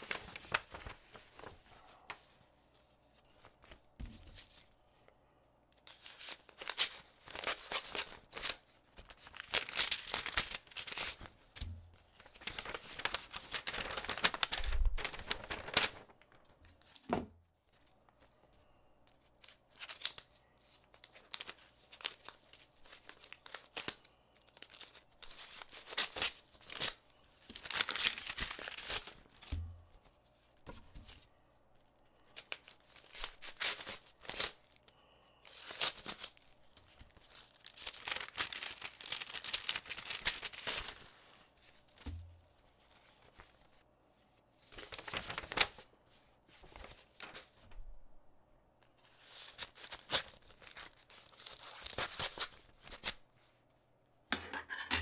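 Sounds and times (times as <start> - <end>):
paper envelopes rustling: 0.0 - 4.8, 5.8 - 17.1, 17.7 - 43.8, 44.4 - 47.8, 49.0 - 53.2.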